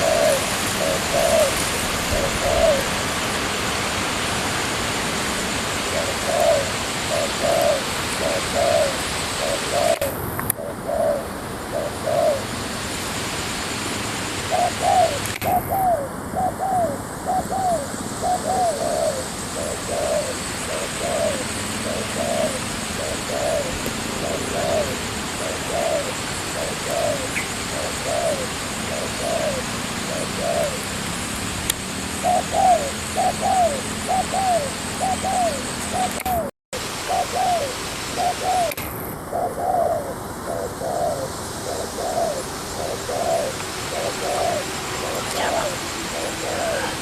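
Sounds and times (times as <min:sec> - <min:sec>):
doves cooing: 0:00.0 - 0:12.8, 0:14.4 - 0:30.9, 0:32.1 - 0:47.0.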